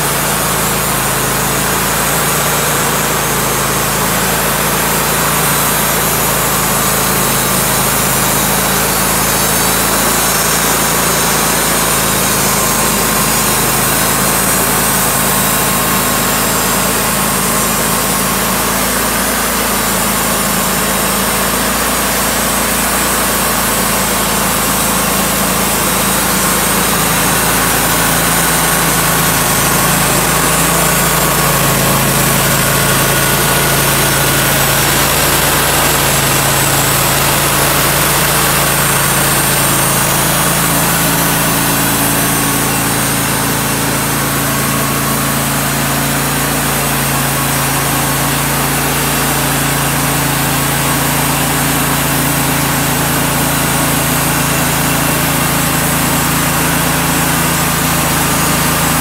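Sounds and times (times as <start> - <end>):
band sawmill sawing log: 0.0 - 59.0.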